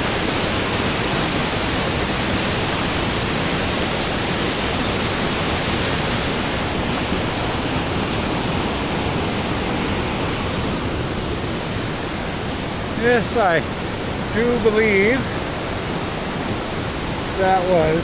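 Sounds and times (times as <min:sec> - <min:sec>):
waterfall cascading over rocks: 0:00.0 - 0:18.0.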